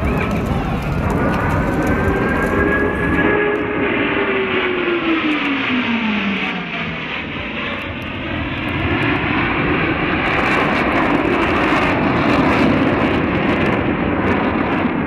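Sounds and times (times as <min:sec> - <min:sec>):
jet roar overhead: 0:00.0 - 0:15.0.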